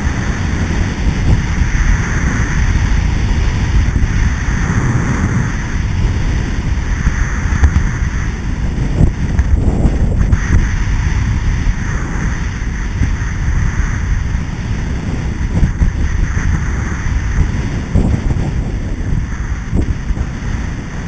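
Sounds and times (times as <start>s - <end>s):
skis sliding over snow: 0.0s - 21.0s
wind buffeting microphone: 0.0s - 21.0s.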